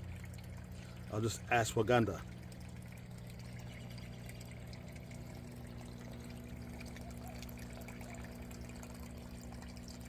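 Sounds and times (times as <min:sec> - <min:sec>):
steady low hum: 0:00.0 - 0:10.0
water trickling and pouring: 0:00.0 - 0:10.0.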